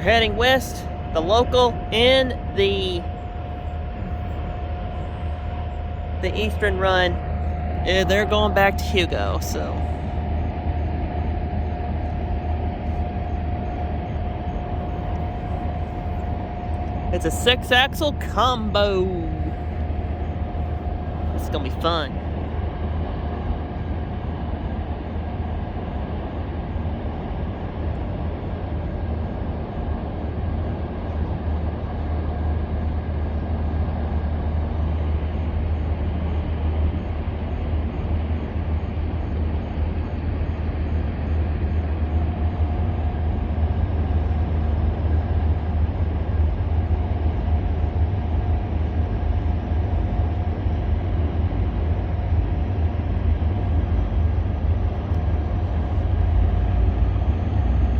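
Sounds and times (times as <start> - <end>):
diesel locomotive engines rumbling: 0.0 - 29.2, 34.2 - 57.9.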